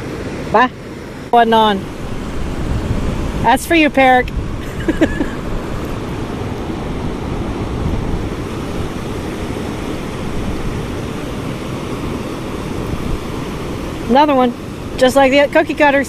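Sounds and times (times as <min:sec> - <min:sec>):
river water rushing over dam: 0:00.0 - 0:16.0.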